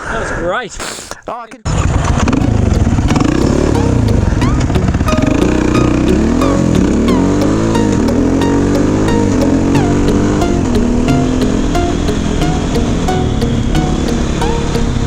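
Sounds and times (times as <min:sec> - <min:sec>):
dirt bike engine revving: 0:01.7 - 0:15.0.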